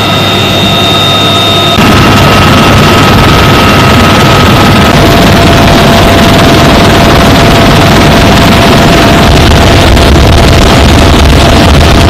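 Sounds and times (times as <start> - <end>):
helicopter rotor and turbine noise: 0.0 - 12.0
thin steady whine: 0.0 - 12.0
wind rush: 1.8 - 12.0.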